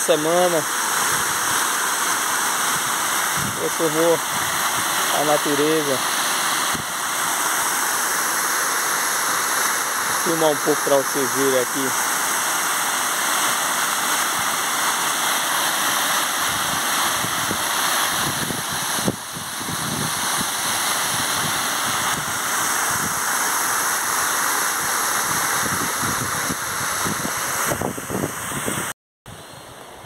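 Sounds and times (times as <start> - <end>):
water pouring over rock ledge: 0.0 - 27.7.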